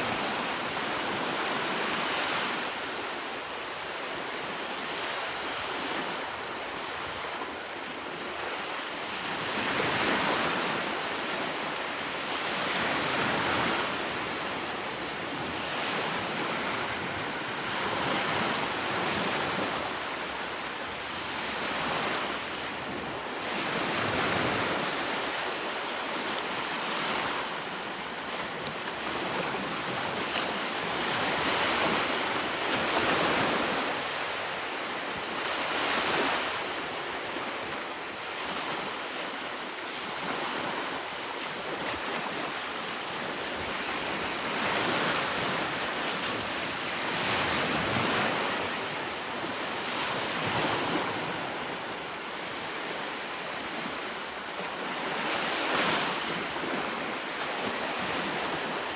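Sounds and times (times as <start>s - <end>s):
sea waves breaking on shore: 3.9s - 58.9s.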